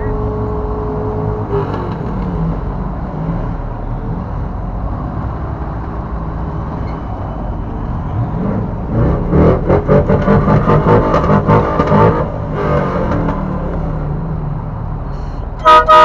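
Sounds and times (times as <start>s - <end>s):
vehicle engines running: 0.0s - 16.0s.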